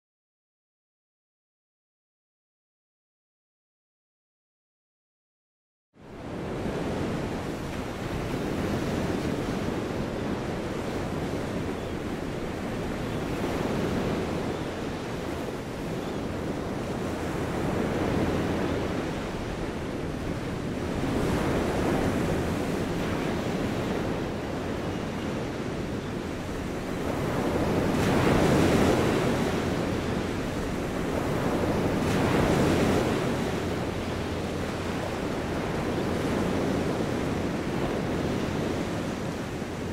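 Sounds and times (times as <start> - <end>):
waves washing onto beach: 6.1 - 39.9.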